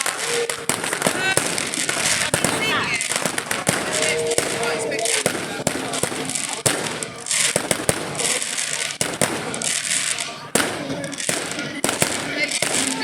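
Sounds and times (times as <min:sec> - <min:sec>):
fireworks bangs: 0:00.0 - 0:13.0
fireworks hissing and crackling: 0:00.0 - 0:13.0.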